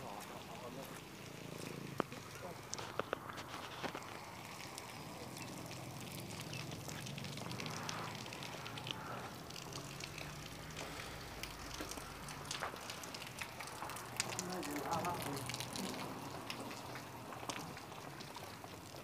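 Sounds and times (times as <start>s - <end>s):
footsteps on slushy pavement: 0.0s - 19.0s.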